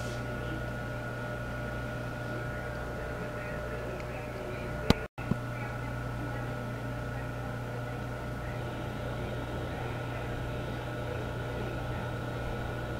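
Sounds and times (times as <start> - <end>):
electrical hum: 0.0 - 12.9.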